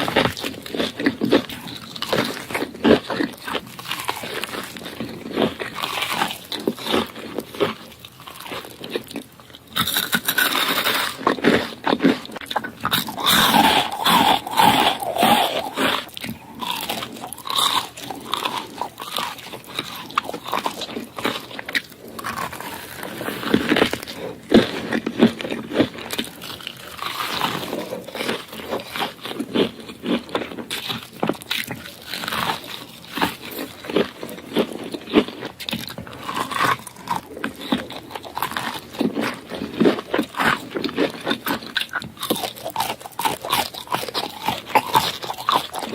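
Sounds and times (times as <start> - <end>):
person chewing and eating: 0.0 - 45.9.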